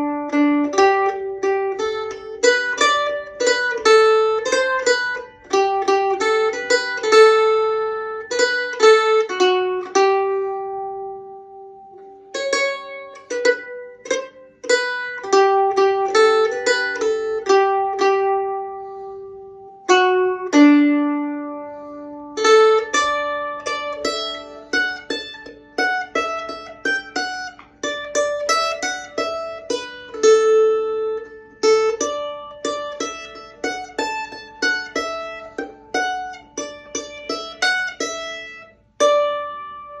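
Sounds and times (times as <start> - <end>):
plucked string instrument melody: 0.0 - 40.0.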